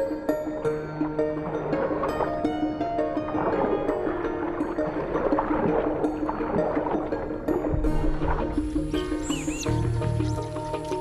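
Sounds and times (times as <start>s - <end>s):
background music held notes: 0.0s - 11.0s
water splashing: 0.5s - 11.0s.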